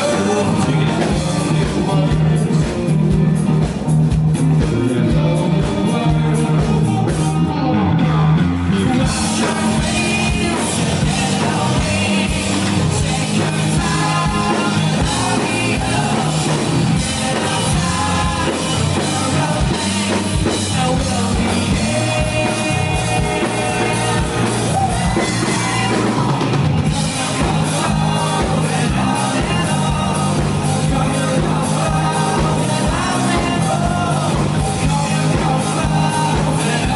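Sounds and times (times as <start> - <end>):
man singing: 0.0 - 3.7, 4.6 - 36.9
live rock band playing: 0.0 - 36.9.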